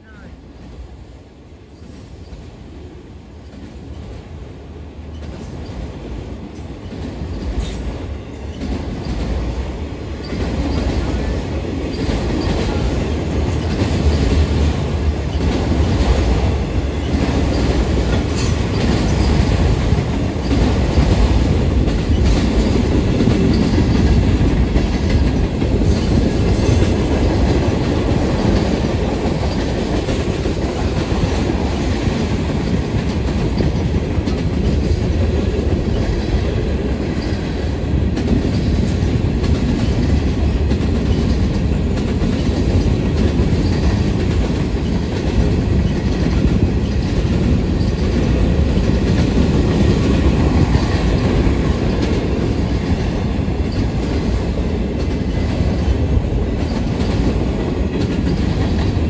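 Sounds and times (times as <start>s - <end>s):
freight train rumble: 0.0s - 59.0s
wheels clacking over rail joints: 5.1s - 59.0s.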